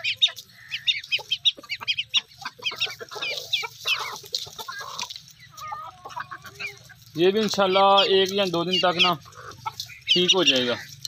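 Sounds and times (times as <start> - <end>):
chicks peeping: 0.0 - 11.0
hens clucking: 0.0 - 11.0.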